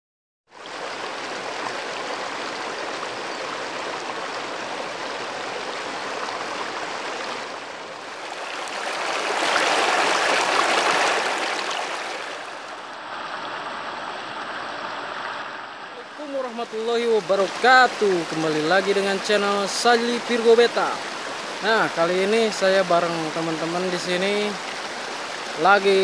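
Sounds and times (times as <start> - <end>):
river water rushing over boulders: 0.6 - 26.0.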